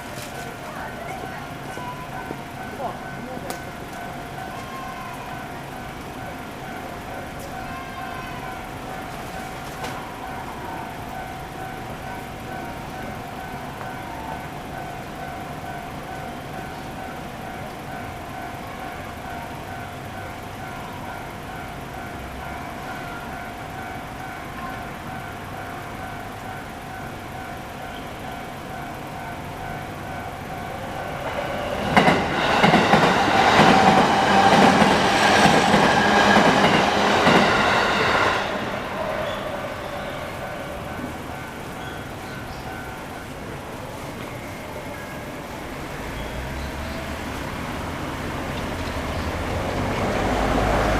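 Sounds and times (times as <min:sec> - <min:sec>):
level-crossing bell ringing: 0:00.0 - 0:46.7
train passing: 0:00.0 - 0:50.9.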